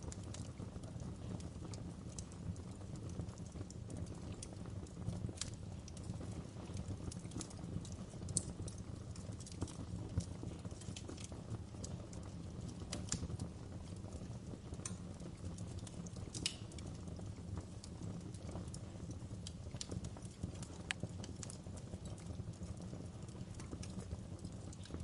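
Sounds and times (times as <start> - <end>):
low rumble of flames: 0.0 - 25.0
wood fire crackling: 0.0 - 25.0.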